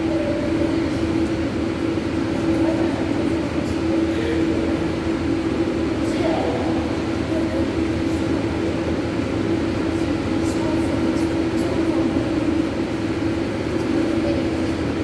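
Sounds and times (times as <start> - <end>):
ventilation machinery hum: 0.0 - 15.0.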